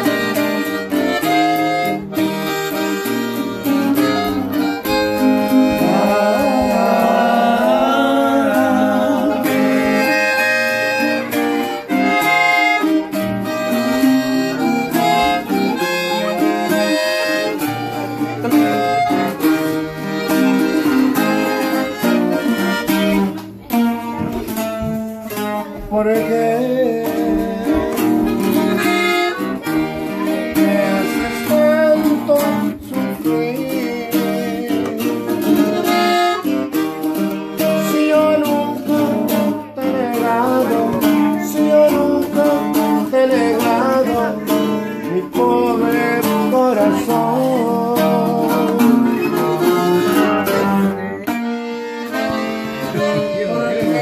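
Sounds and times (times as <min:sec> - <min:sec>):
button accordion melody: 0:00.0 - 0:54.0
strummed guitar rhythm: 0:00.0 - 0:54.0.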